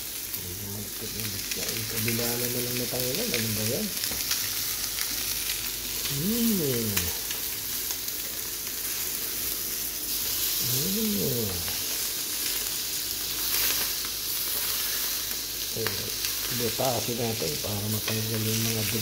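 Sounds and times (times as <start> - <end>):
chicken sizzling in grill pan: 0.0 - 19.0.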